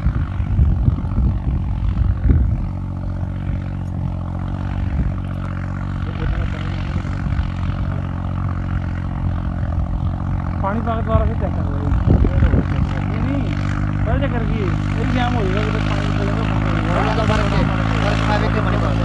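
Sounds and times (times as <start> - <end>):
tractor diesel engine droning: 0.0 - 19.0.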